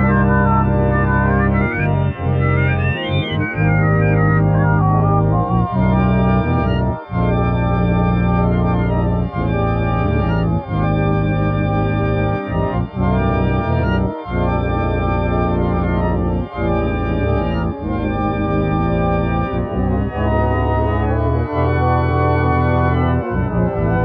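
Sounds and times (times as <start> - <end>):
organ-like keyboard chords: 0.0 - 24.0.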